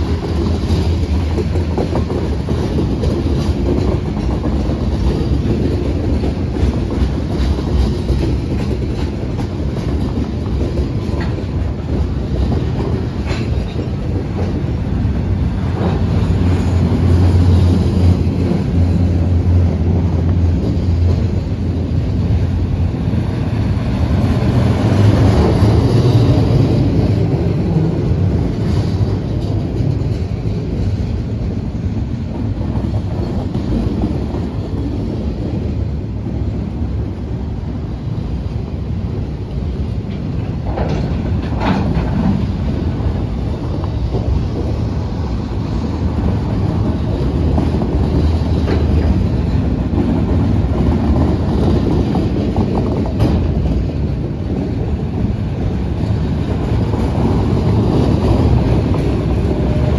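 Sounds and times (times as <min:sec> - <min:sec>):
freight train rumbling on rails: 0:00.0 - 0:59.9.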